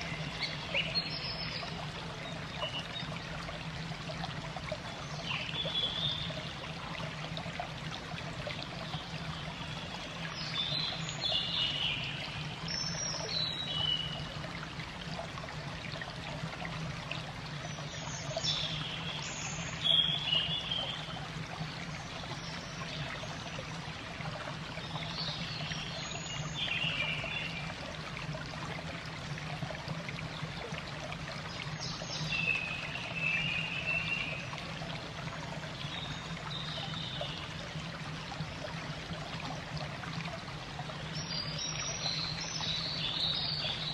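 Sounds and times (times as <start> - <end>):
trickle of running water: 0.0 - 43.9.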